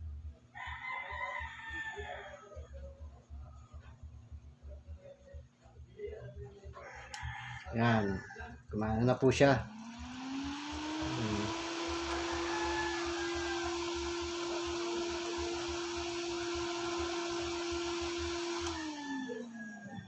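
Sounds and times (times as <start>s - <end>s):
fan humming: 2.8s - 20.0s.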